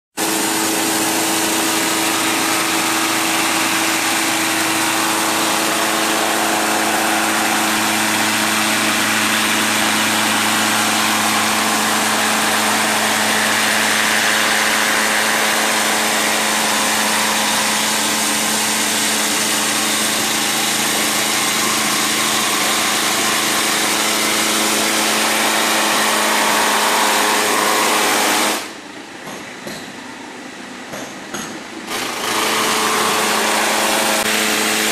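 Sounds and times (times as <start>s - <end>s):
floor scarifier machine grinding: 0.2s - 28.8s, 31.9s - 34.9s.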